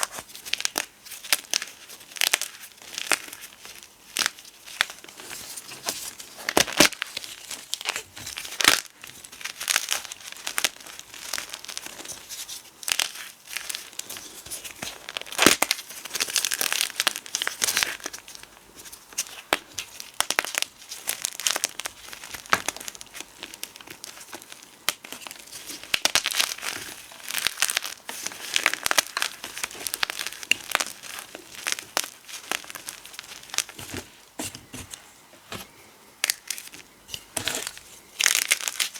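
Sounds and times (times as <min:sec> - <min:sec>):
powder crackling and crunching: 0:00.0 - 0:38.9.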